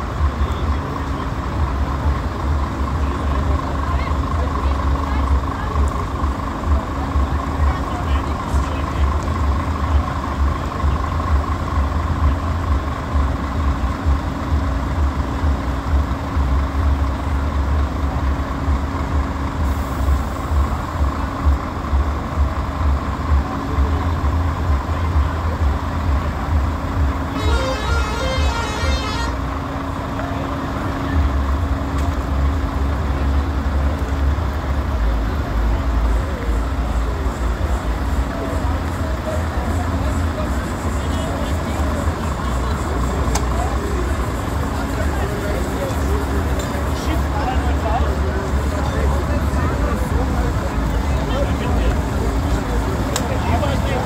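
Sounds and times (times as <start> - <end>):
diesel truck engines idling: 0.0 - 54.0.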